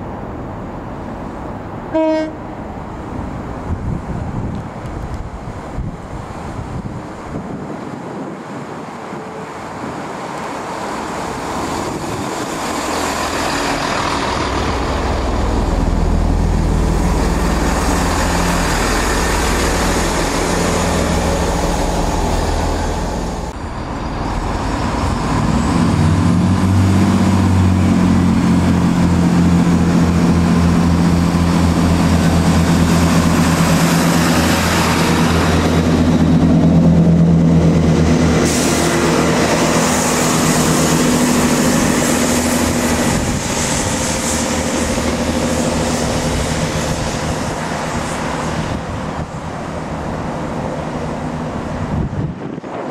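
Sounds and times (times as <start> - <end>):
diesel train passing: 0.0 - 52.9.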